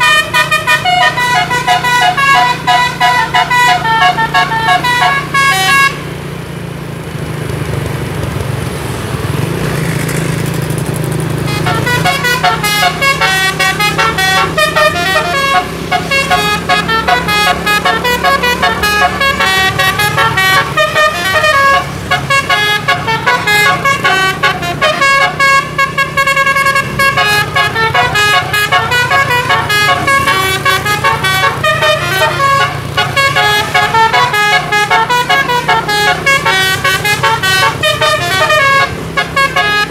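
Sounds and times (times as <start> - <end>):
bus musical air horns: 0.0 - 6.2, 11.4 - 39.9
bus engine hum: 0.0 - 39.9.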